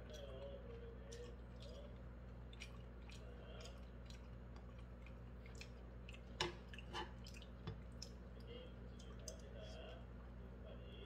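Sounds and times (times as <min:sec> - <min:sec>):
quiet chewing: 0:00.0 - 0:10.6
low steady hum: 0:00.0 - 0:11.0.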